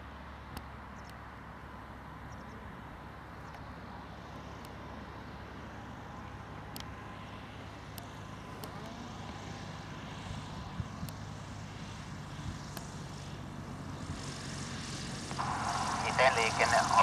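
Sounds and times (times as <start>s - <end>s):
propeller engine drone: 0.0s - 17.0s.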